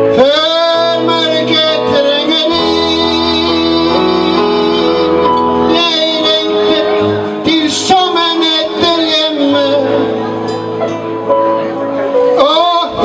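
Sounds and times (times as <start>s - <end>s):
acoustic guitar and band: 0.0s - 13.0s
man singing into a microphone: 0.0s - 13.0s.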